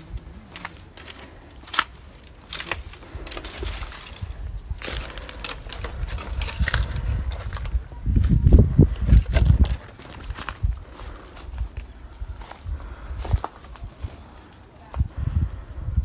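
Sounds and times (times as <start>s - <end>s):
low microphone rumble: 0.0s - 16.0s
footsteps crunching dry leaves: 0.4s - 14.4s.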